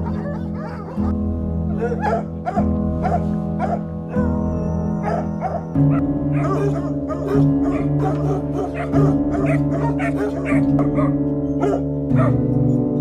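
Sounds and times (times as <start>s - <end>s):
background music of held chords: 0.0s - 13.0s
dogs barking: 0.0s - 13.0s.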